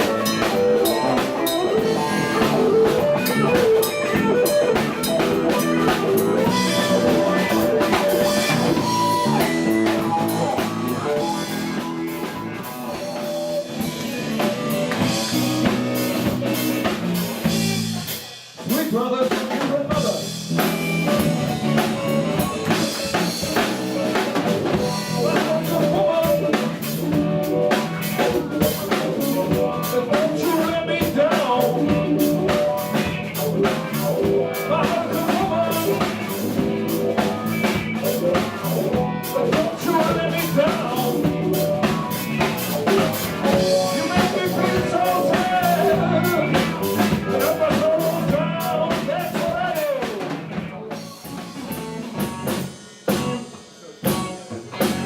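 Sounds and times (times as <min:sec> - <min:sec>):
drum kit: 0:00.0 - 0:55.0
guitar: 0:00.0 - 0:55.0.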